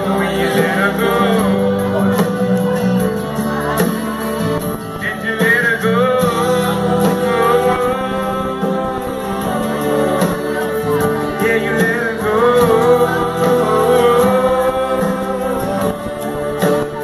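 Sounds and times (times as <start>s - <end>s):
man singing into microphone: 0.0s - 3.8s, 4.7s - 17.0s
instrumental backing music: 0.0s - 17.0s.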